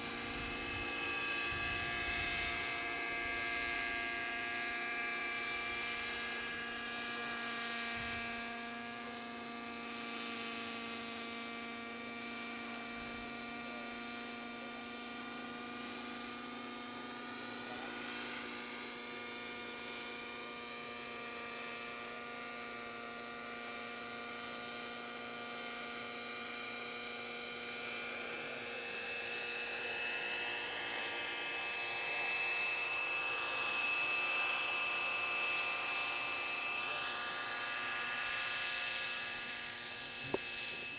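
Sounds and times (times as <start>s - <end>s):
model helicopter engine whine: 0.0s - 40.9s.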